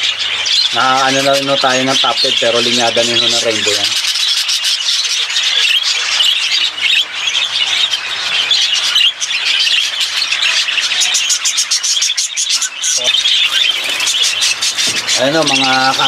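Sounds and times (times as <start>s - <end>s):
budgerigars chattering and squawking: 0.0s - 16.0s.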